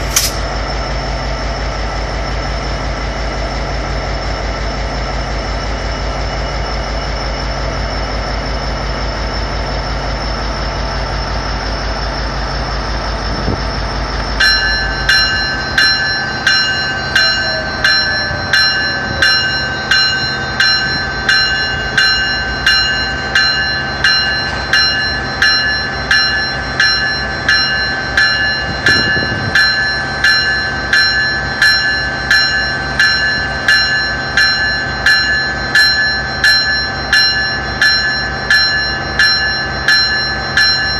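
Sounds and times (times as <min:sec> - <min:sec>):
diesel train engine rumble: 0:00.0 - 0:40.9
level-crossing warning bell: 0:00.0 - 0:40.9.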